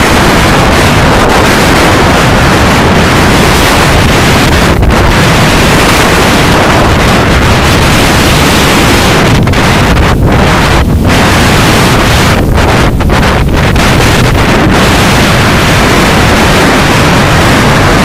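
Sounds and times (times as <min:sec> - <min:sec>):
heavy surf breaking on rocks: 0:00.0 - 0:18.0
wind buffeting microphone: 0:00.0 - 0:18.0.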